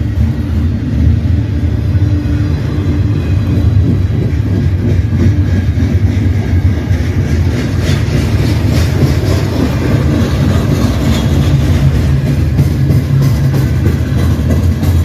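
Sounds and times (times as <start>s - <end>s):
freight train wheels rumbling: 0.0s - 15.0s
wheels clicking over rail joints: 2.2s - 15.0s.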